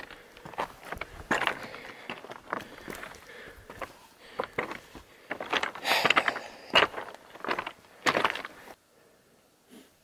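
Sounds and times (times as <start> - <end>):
stones clinking and scraping: 0.0 - 8.7
footsteps crunching on loose rock: 0.0 - 8.8.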